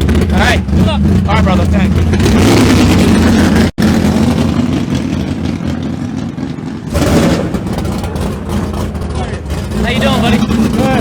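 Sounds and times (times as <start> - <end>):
drag racing car engines revving: 0.0 - 11.0.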